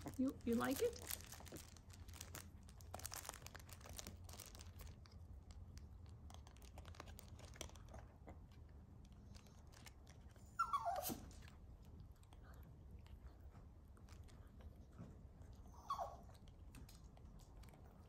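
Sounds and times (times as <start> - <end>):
dog chewing crinkly toy: 0.0 - 18.0.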